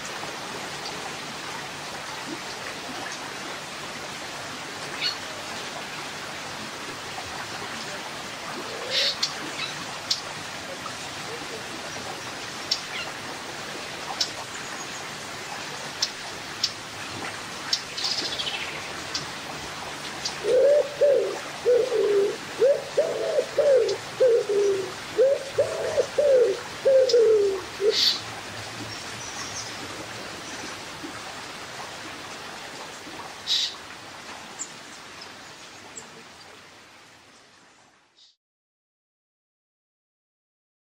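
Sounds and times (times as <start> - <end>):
river water over rocks: 0.0 - 38.2.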